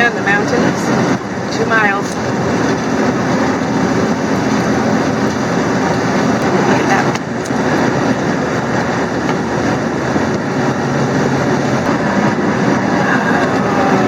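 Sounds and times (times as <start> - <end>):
truck engine and road noise: 0.0 - 14.0.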